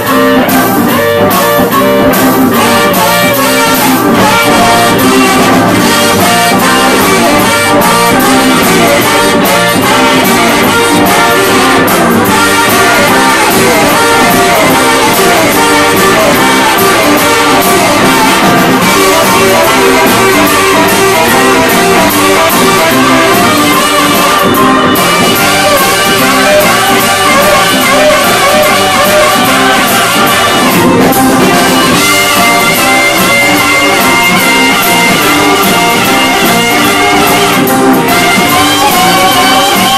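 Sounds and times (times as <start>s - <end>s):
brass horns melody: 0.0s - 39.9s
live rock band playing: 0.0s - 39.9s.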